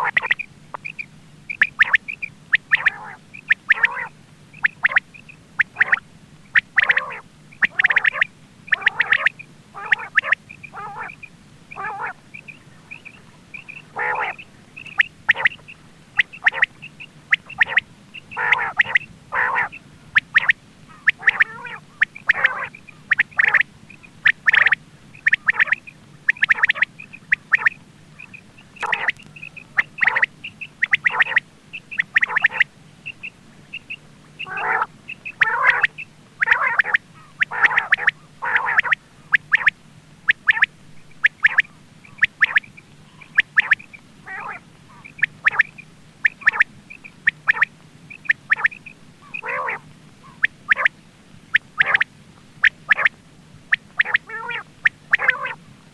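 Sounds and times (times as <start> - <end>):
quail calling: 0.0 - 55.7
faint low hum: 0.0 - 55.9.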